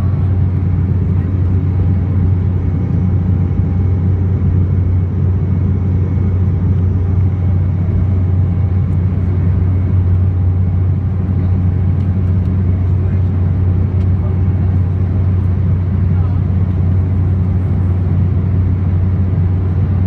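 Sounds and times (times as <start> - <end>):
jet engine low hum: 0.0 - 20.0.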